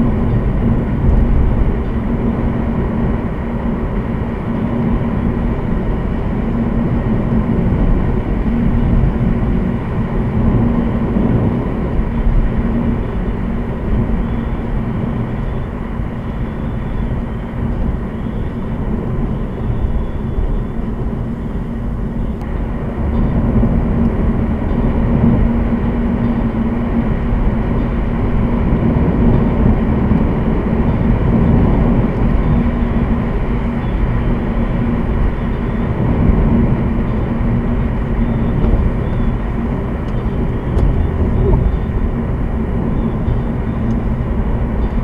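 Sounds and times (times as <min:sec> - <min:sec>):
car engine and tyre noise: 0:00.0 - 0:45.0
low hum: 0:00.0 - 0:45.0.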